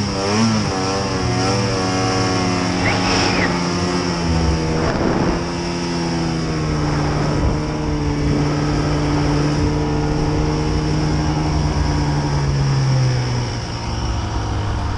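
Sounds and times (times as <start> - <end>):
snowmobile engine running: 0.0 - 14.9.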